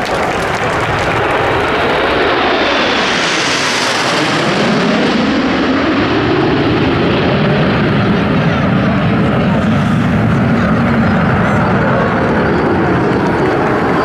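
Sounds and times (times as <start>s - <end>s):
jets flying low overhead: 0.0s - 14.0s.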